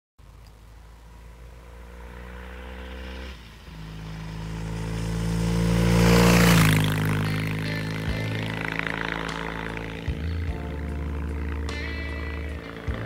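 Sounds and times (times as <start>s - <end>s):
road noise: 0.2s - 13.0s
motorcycle engine passing by: 0.6s - 13.0s.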